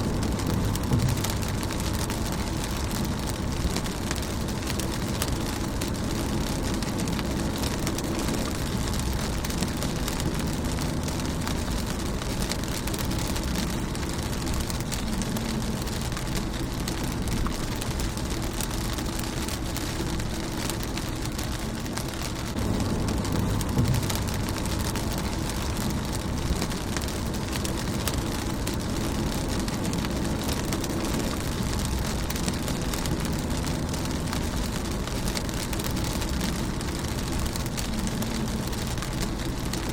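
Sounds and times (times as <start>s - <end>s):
rain on car windshield: 0.0s - 39.9s.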